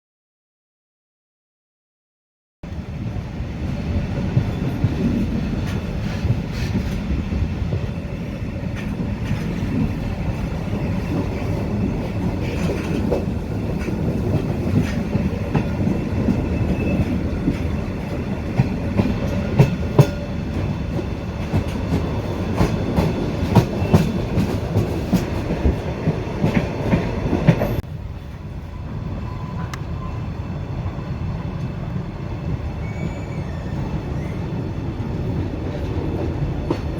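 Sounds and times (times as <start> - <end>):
train rumbling on rails: 2.6 - 36.9.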